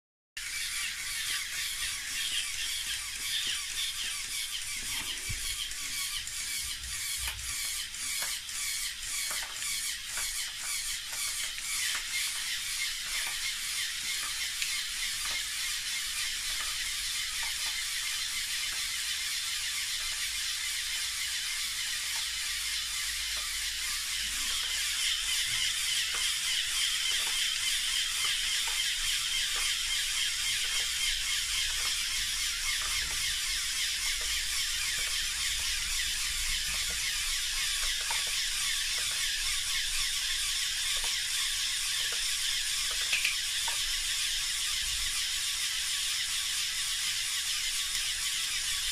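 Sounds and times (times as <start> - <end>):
motors whirring: 0.4 - 48.9
pump strokes clicking: 0.4 - 48.9.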